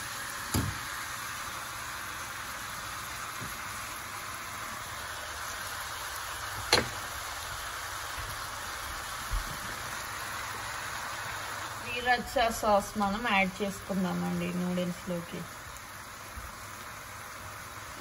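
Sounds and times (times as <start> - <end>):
vegetables and noodles sizzling: 0.0 - 18.0.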